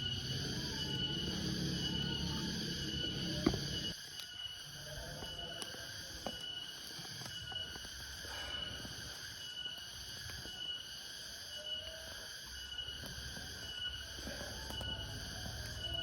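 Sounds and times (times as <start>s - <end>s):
insects calling in chorus: 0.0s - 16.0s
pulsing high insect note: 0.0s - 16.0s.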